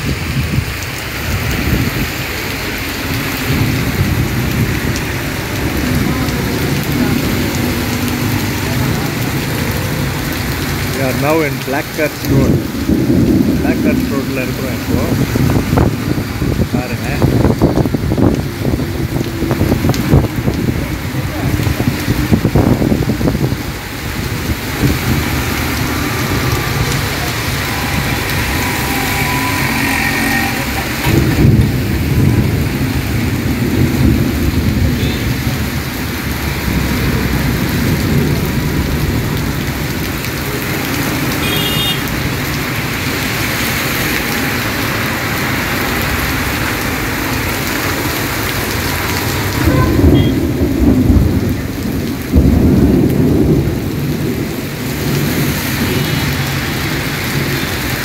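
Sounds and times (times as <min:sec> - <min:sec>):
heavy rain pouring: 0:00.0 - 0:58.0
thunder rumbling: 0:00.0 - 0:58.0.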